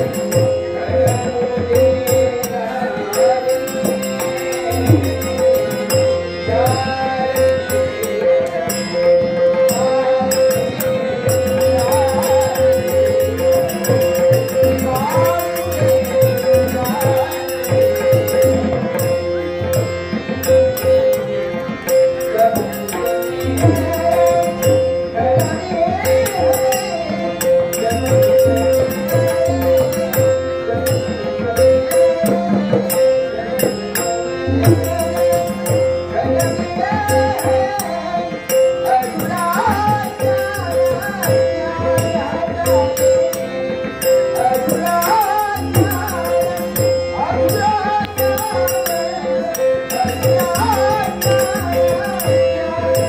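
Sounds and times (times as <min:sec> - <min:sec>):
harmonium holding a note: 0:00.0 - 0:53.0
man singing: 0:00.0 - 0:53.0
tabla playing a rhythm: 0:00.0 - 0:53.0.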